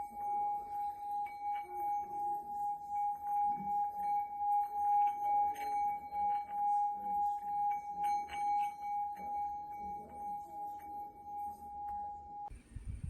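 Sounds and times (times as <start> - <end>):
striker scraping bowl rim: 0.0 - 12.5
singing bowl rubbed around rim: 0.0 - 13.0.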